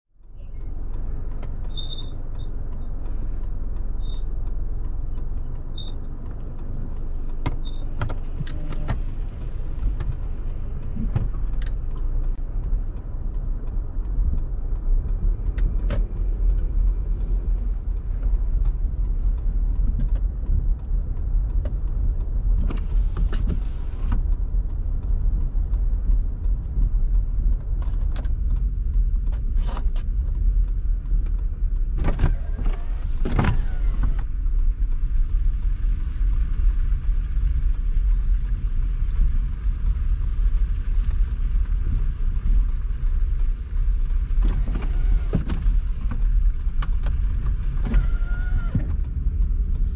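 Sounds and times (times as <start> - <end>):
tyre and engine rumble: 0.1 - 49.9.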